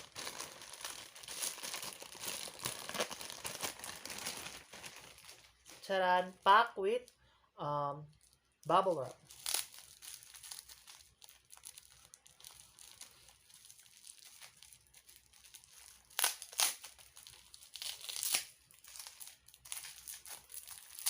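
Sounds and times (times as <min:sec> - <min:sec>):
bubble wrap crinkling: 0:00.0 - 0:07.2, 0:08.1 - 0:21.0.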